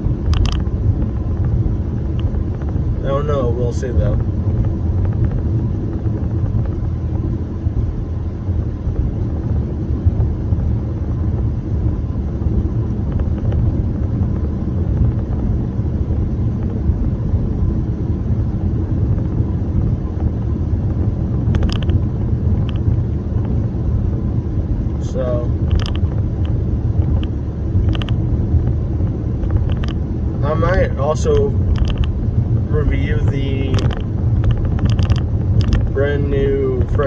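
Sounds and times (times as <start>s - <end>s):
car interior road and engine noise: 0.0s - 37.0s.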